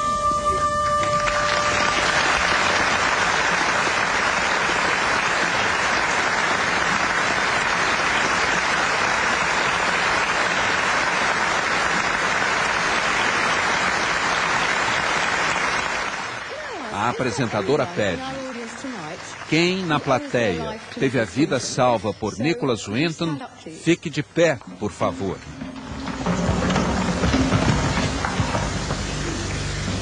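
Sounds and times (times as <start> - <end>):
audience applauding: 0.4 - 23.3, 24.8 - 30.0.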